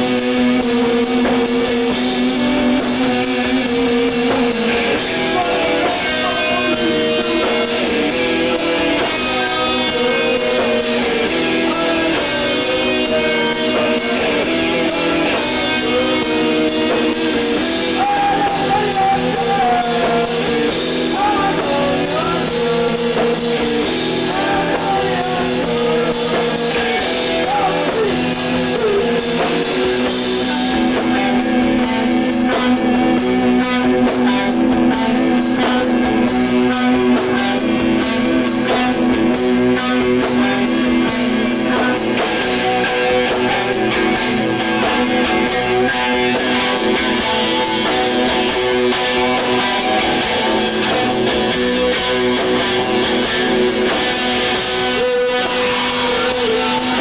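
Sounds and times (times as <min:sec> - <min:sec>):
drum kit with cymbals: 0:00.0 - 0:57.0
electric guitars: 0:00.0 - 0:57.0
person singing: 0:00.0 - 0:57.0.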